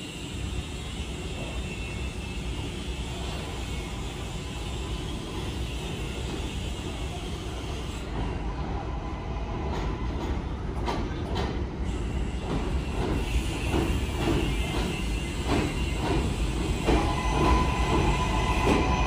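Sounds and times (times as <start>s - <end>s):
subway train rumbling on rails: 0.0s - 19.0s.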